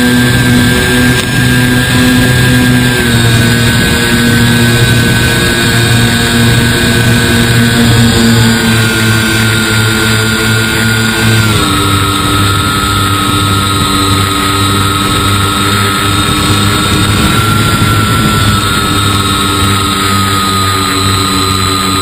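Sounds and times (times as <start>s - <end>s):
model plane motor whine: 0.0s - 22.0s
rushing air: 0.0s - 22.0s.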